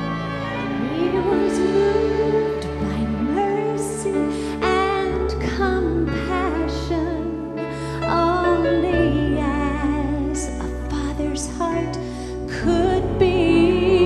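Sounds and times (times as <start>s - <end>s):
orchestral accompaniment: 0.0s - 11.4s
woman singing with vibrato: 0.0s - 14.0s.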